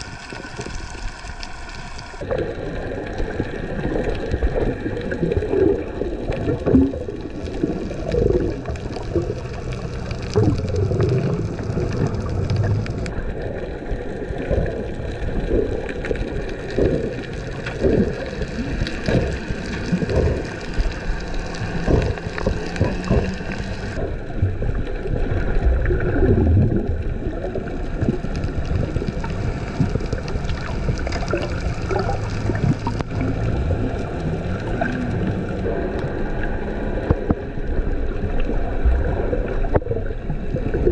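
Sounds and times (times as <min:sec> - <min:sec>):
muffled underwater sloshing: 0:00.0 - 0:40.9.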